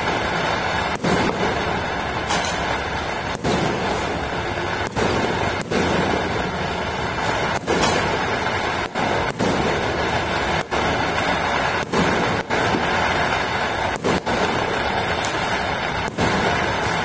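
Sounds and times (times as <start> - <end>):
fireworks and firecrackers: 0.0 - 17.0.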